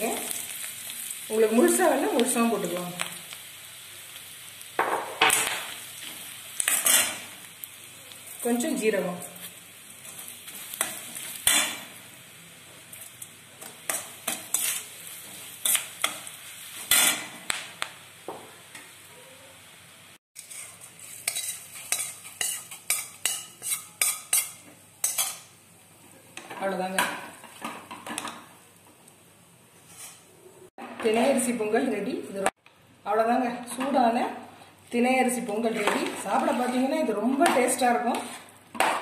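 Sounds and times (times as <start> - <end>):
spices sizzling in ghee: 0.0 - 39.0.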